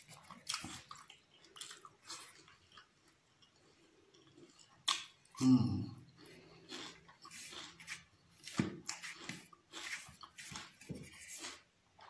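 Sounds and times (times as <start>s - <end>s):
wet chewing and lip smacks: 0.0s - 5.4s, 6.1s - 11.6s.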